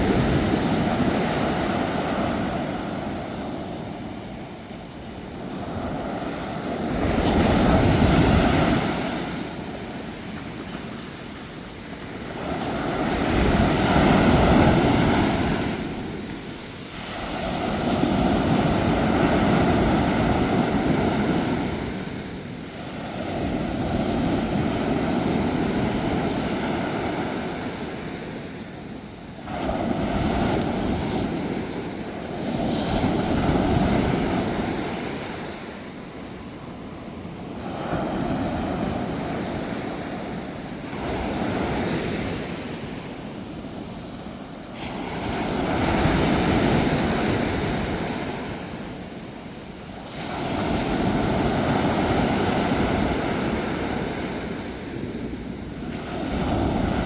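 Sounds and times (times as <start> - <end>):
sea waves breaking: 0.0 - 28.7, 29.4 - 57.0.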